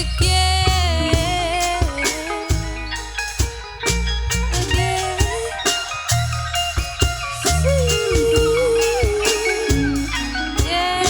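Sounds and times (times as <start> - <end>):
drum kit: 0.0 - 11.0
electric bass: 0.0 - 11.0
guitar melody with bending notes: 0.0 - 11.0.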